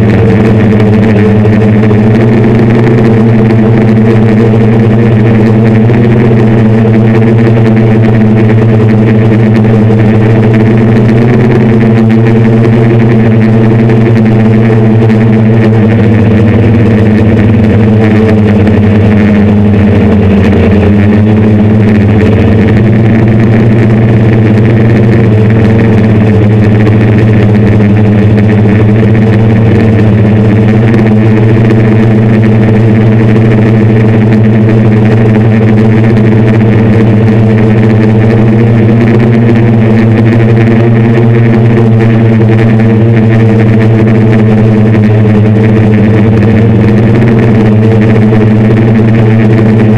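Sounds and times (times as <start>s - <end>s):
drone motors humming: 0.0s - 49.9s.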